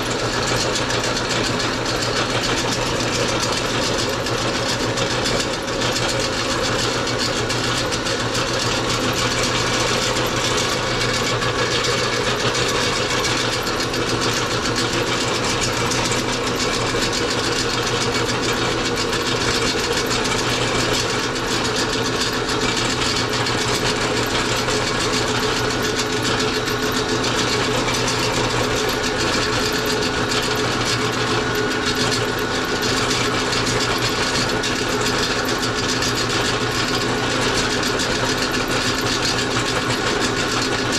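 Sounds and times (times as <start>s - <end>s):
meat grinder running: 0.0s - 40.9s.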